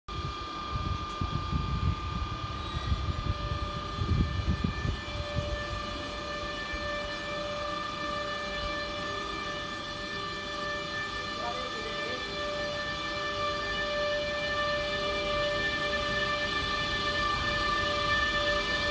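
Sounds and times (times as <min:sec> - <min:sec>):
electric locomotive whine: 0:00.1 - 0:18.9.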